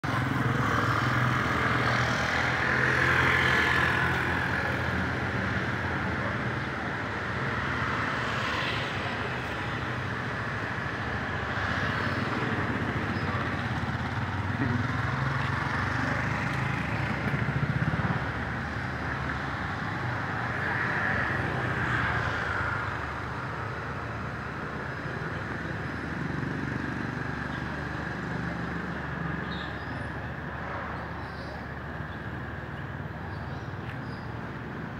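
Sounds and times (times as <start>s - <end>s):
road traffic engines passing: 0.0s - 34.9s.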